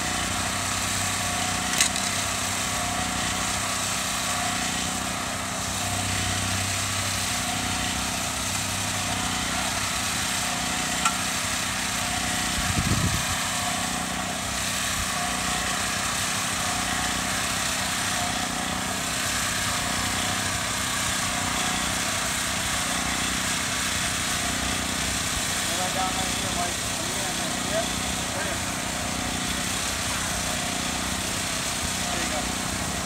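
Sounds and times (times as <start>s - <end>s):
small gasoline engine running: 0.0s - 33.0s.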